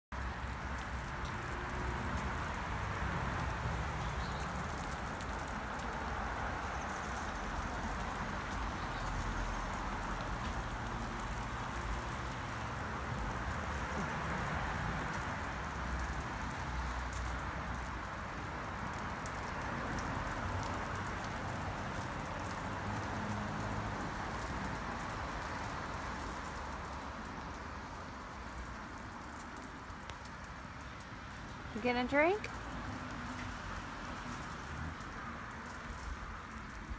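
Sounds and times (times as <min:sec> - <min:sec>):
rain pattering on plastic: 0:00.1 - 0:36.9.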